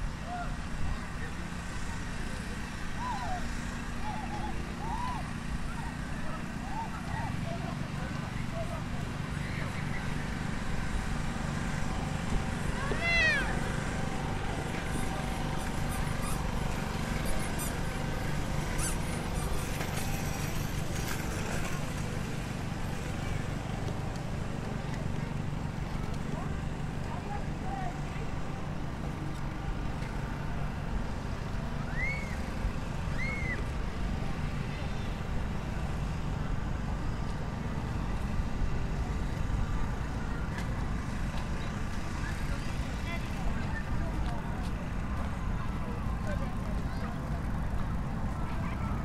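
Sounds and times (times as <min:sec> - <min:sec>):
low outdoor rumble: 0:00.0 - 0:49.0.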